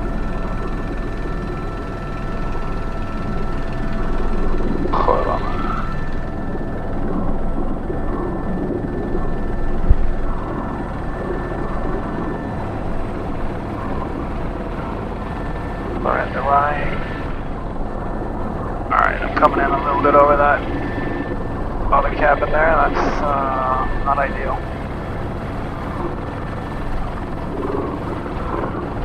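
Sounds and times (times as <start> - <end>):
helicopter turbine whine and rotor: 0.0 - 29.0.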